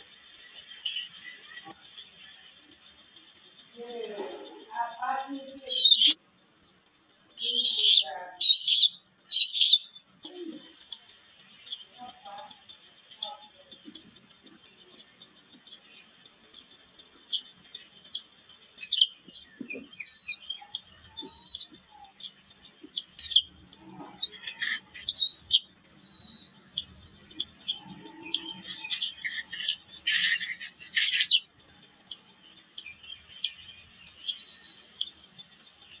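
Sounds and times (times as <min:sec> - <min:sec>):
eagle chicks cheeping: 0:00.0 - 0:36.0.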